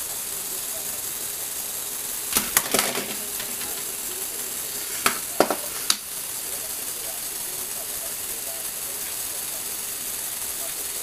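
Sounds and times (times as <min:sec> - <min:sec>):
steady hiss: 0:00.0 - 0:11.0
toy cars clicking and clattering: 0:00.0 - 0:11.0.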